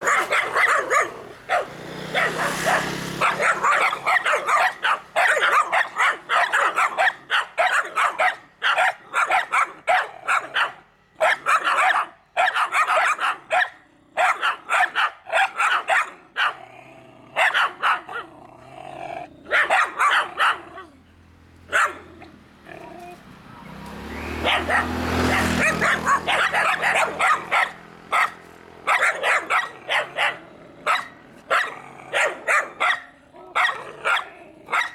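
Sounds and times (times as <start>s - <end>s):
dogs barking: 0.0s - 16.7s, 17.3s - 18.4s, 19.4s - 21.0s, 21.6s - 22.8s, 23.5s - 34.9s.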